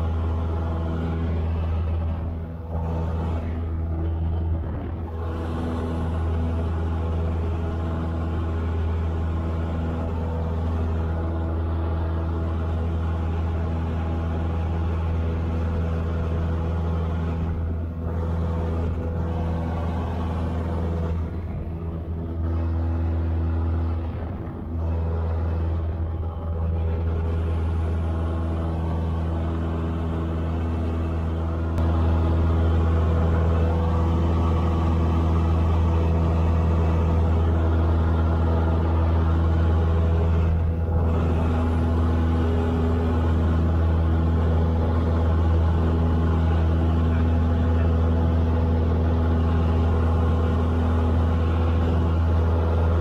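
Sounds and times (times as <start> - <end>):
propeller plane engine droning: 0.0 - 53.0.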